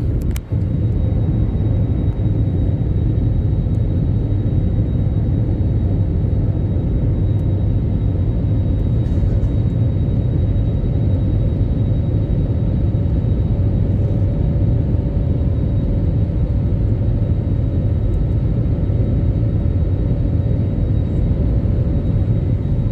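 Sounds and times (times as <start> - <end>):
faint steady whine: 0.0 - 22.9
jet engines rumbling: 0.0 - 22.9.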